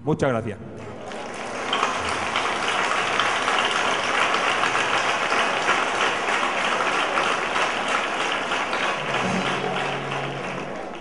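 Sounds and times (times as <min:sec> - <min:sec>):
applause: 0:00.8 - 0:11.0.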